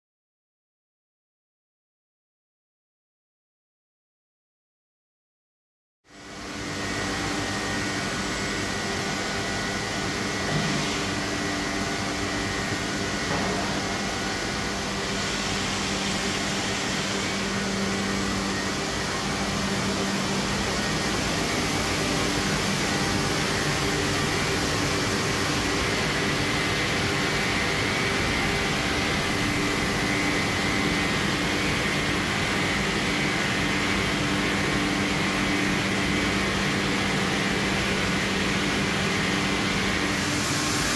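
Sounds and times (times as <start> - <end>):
machine hum with high whine: 6.1 - 40.9.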